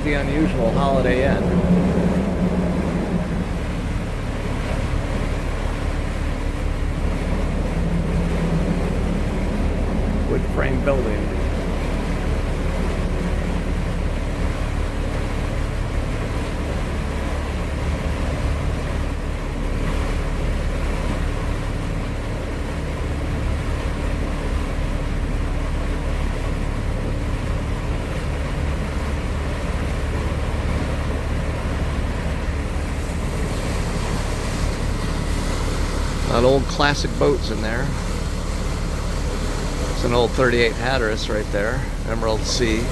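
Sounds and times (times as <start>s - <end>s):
motorboat engine humming: 0.0s - 42.9s
rush of wind and water: 0.0s - 42.9s.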